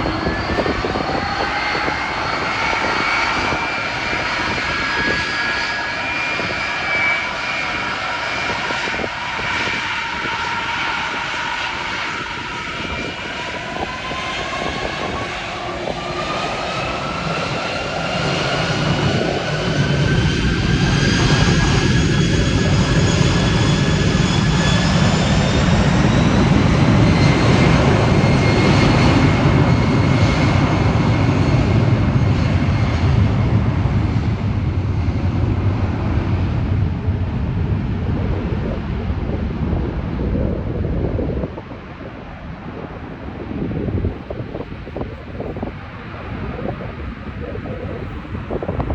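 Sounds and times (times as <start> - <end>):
jet engine low rumble: 0.0 - 48.9
jet engine whine: 0.0 - 48.9.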